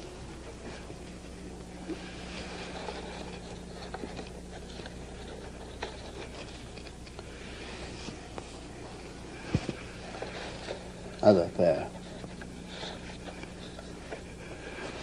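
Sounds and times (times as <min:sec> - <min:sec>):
low electrical hum and hiss: 0:00.0 - 0:15.0.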